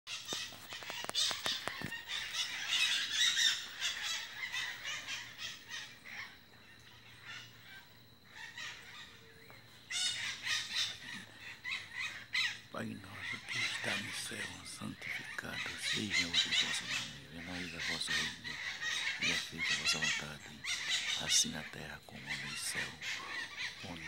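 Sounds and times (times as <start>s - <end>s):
birds chattering: 0.1s - 24.0s.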